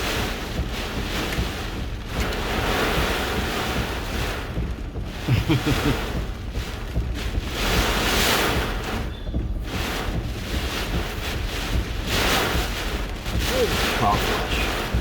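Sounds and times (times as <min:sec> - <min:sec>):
strong gusting wind: 0:00.0 - 0:15.0
wind buffeting microphone: 0:00.0 - 0:15.0.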